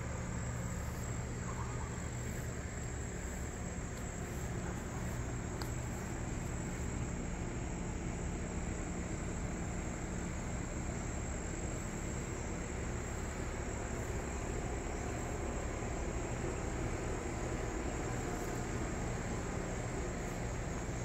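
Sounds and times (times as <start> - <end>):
low drone of distant engines: 0.0 - 21.0.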